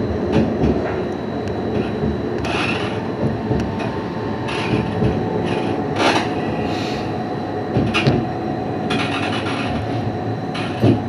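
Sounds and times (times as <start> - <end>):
tram wheels rumbling on rail: 0.0 - 11.0.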